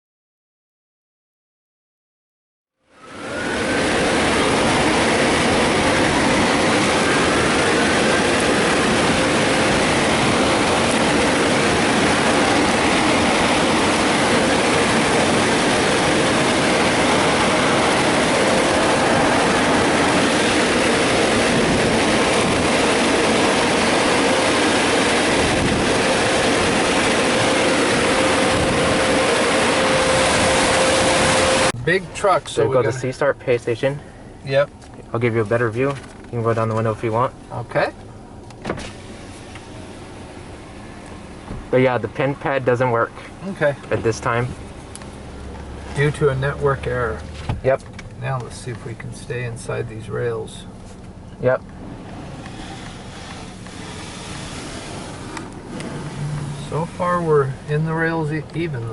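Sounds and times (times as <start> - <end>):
car wash machinery rushing: 3.0 - 58.9.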